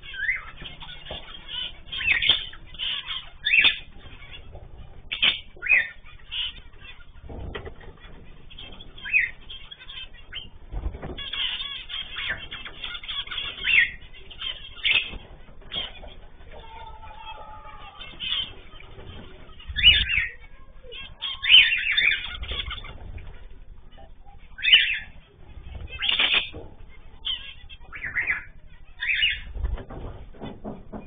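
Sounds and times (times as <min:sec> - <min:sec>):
finches chirping: 0:00.0 - 0:30.0.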